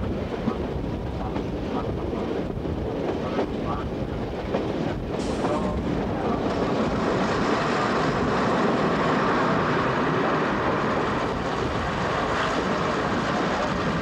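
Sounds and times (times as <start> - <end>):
train running inside carriage: 0.0 - 14.0.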